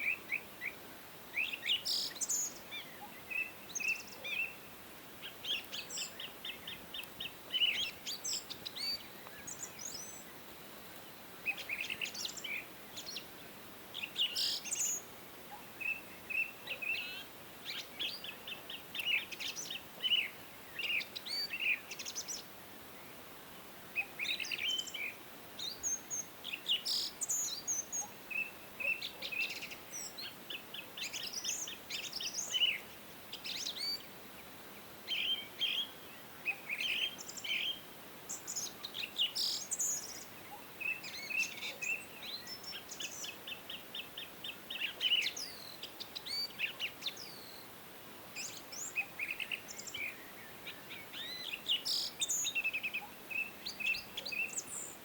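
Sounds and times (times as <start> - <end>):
faint steady hiss: 0.0 - 55.0
songbirds chirping and trilling: 0.0 - 55.0.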